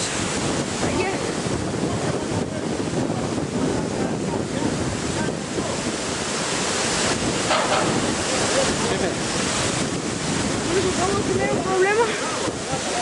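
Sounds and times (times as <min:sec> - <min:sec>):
river rushing over rocks: 0:00.0 - 0:13.0
wind buffeting microphone: 0:00.0 - 0:13.0.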